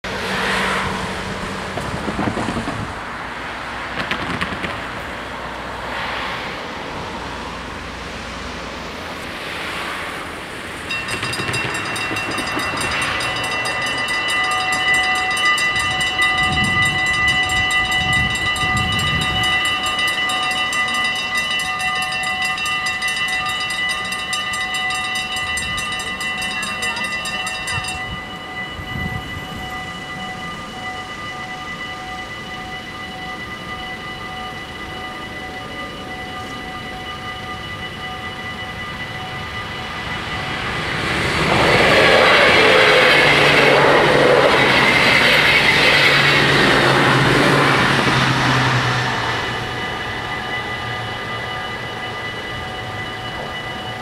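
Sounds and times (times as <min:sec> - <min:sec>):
road traffic passing: 0:00.0 - 0:54.0
level crossing bells ringing: 0:10.7 - 0:54.0.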